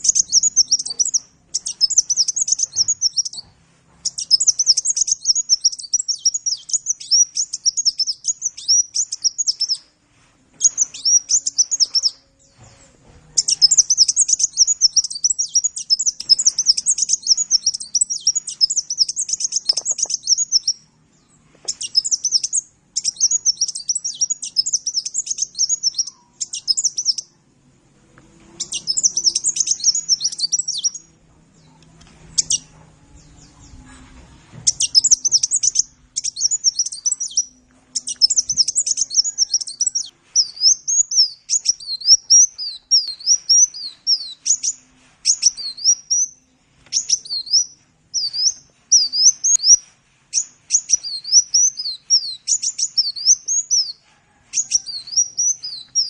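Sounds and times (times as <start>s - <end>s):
bird twittering song: 0.0s - 9.9s, 10.6s - 27.4s, 28.6s - 34.0s, 34.6s - 54.0s, 54.6s - 56.0s.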